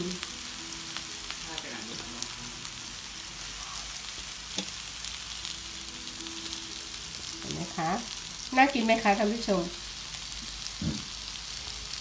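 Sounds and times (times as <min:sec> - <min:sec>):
food sizzling on grill pan: 0:00.0 - 0:12.0.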